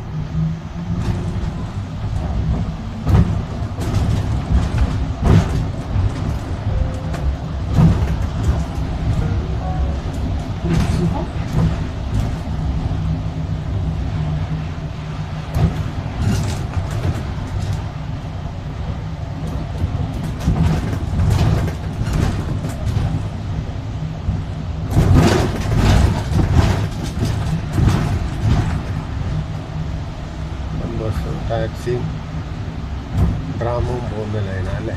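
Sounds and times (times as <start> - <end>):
road vehicle running hum: 0.0 - 34.9.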